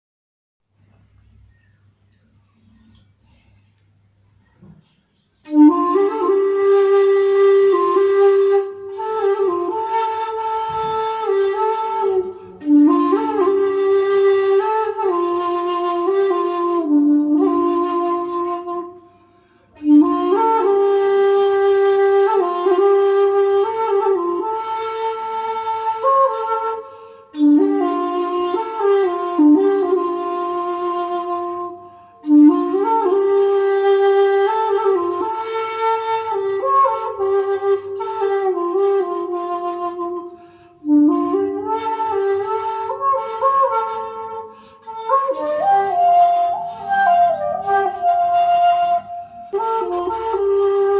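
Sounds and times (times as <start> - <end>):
breathy bamboo flute solo: 4.4 - 50.9.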